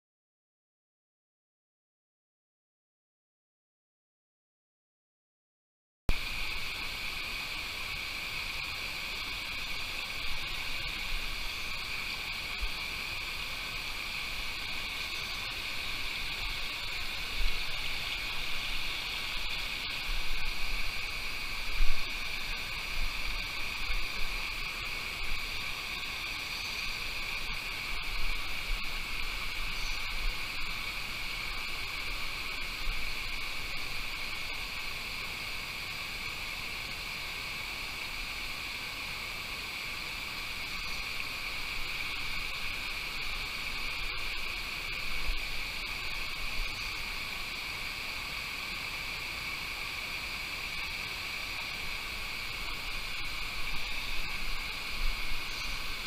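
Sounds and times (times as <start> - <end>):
stream rushing over stones: 6.1 - 56.0.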